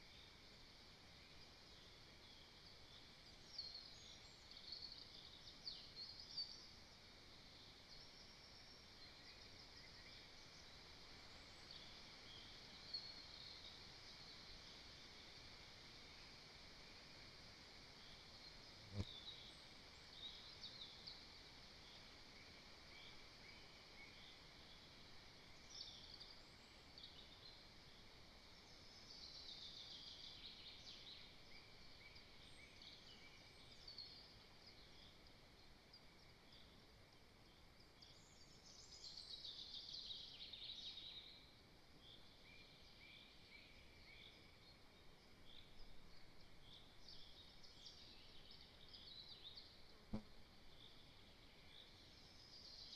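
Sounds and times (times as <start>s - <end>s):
songbirds singing: 1.2s - 52.9s.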